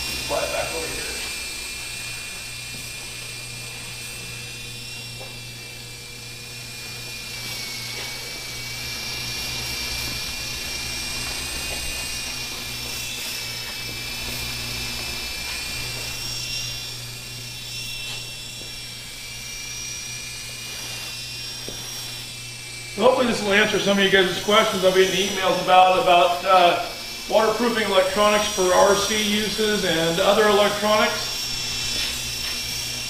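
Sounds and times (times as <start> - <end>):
toy helicopter rotors whining: 0.0 - 33.0.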